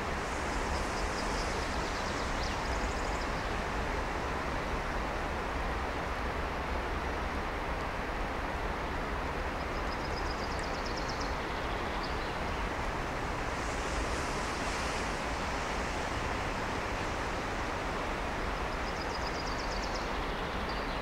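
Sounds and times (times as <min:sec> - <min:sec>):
electric locomotive rumble and hiss: 0:00.0 - 0:20.8.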